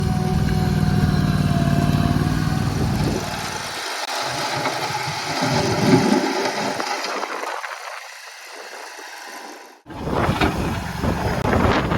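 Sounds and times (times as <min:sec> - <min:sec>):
skid steer loader engine running: 0:00.0 - 0:11.9.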